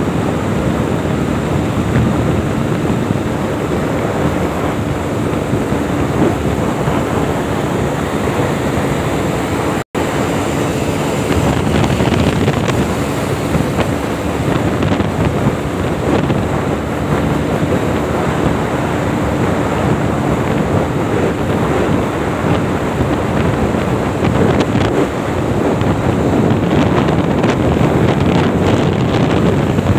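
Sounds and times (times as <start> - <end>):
motorcycle engine running: 0.0 - 29.9
wind noise on microphone: 0.0 - 29.9.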